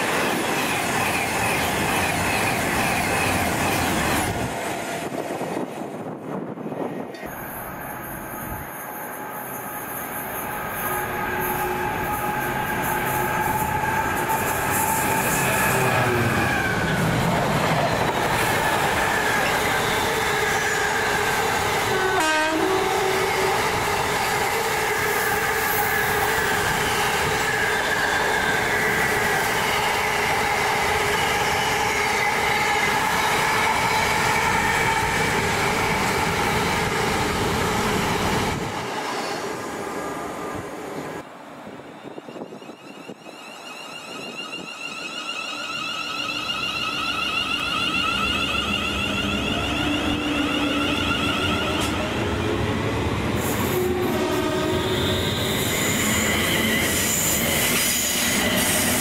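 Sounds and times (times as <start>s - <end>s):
train rail and wheel noise: 0.0s - 59.0s.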